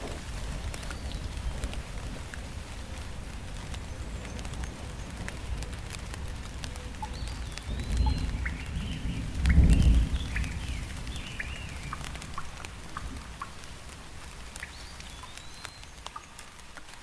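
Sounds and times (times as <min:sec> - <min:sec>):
steady rain: 0:00.0 - 0:17.0
water drips: 0:00.0 - 0:17.0.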